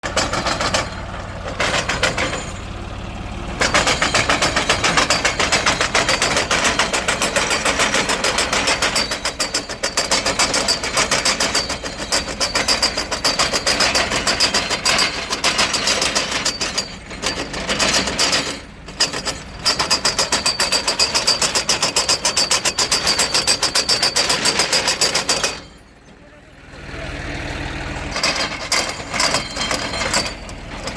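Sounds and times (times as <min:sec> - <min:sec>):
tractor engine running under load: 0:00.0 - 0:30.9.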